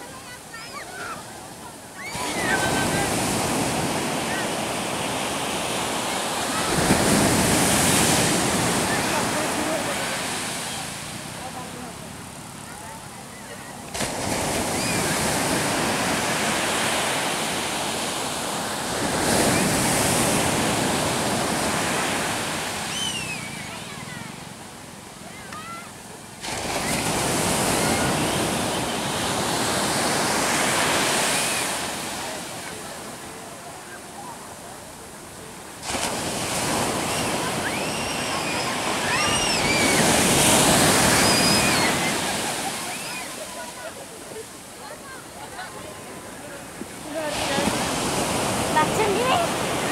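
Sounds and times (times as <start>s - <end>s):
surf breaking on shore: 0.0s - 49.9s.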